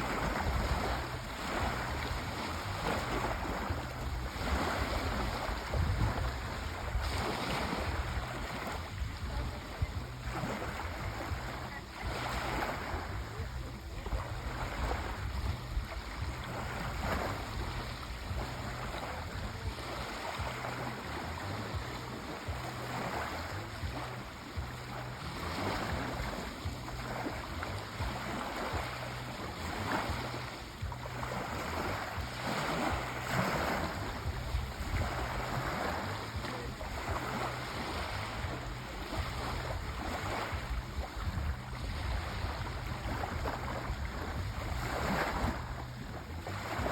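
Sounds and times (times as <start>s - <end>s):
sea waves washing in: 0.0s - 46.9s.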